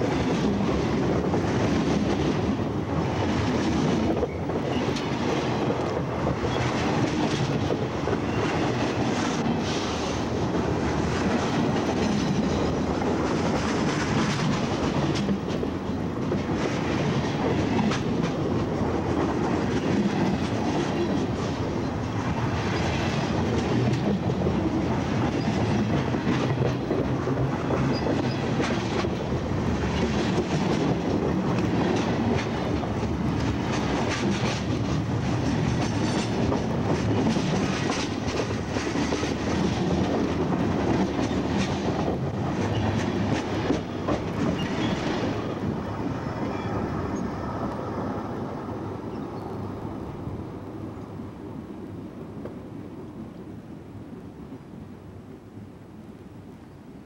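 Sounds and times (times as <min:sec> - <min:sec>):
steel wheels on rails: 0:00.0 - 0:49.2.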